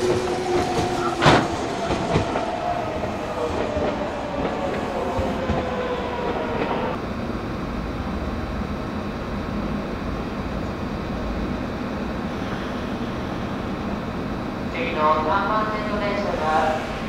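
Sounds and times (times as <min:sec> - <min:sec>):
electric train whine: 0:00.0 - 0:17.0
train wheels rumbling on rails: 0:00.0 - 0:17.0.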